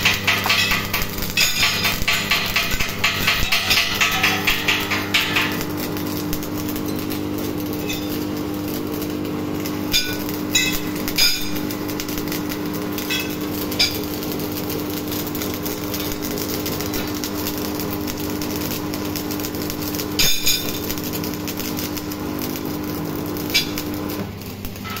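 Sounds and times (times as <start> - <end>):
welding arc crackling: 0.0 - 25.0.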